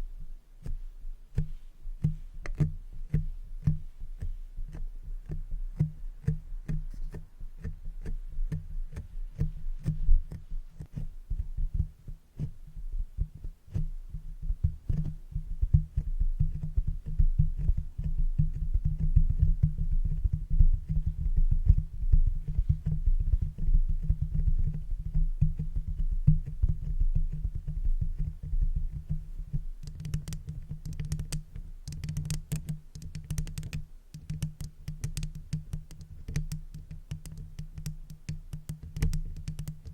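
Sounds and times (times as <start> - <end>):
brush thumping and rustling on microphone: 0.6 - 39.9
brush scratching on microphone: 1.4 - 12.6, 16.0 - 39.9.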